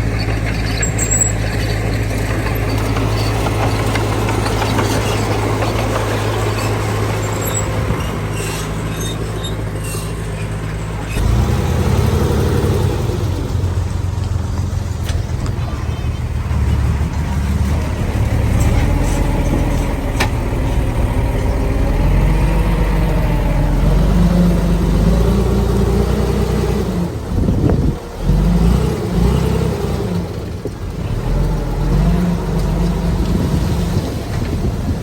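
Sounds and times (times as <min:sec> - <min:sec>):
heavy diesel machinery revving: 0:00.0 - 0:35.0.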